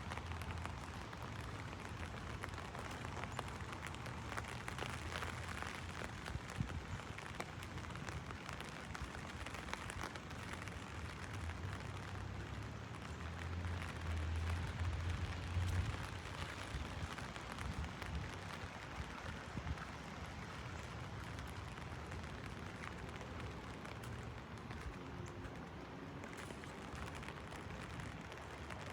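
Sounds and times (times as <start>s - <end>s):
heavy rain drumming on umbrella: 0.0s - 28.9s.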